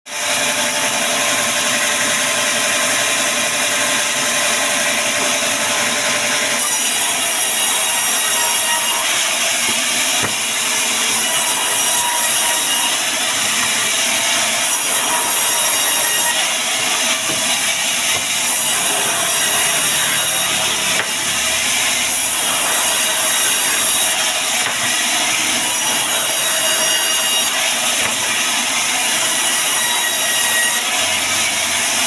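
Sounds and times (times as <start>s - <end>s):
band saw cutting wood: 0.1s - 32.0s.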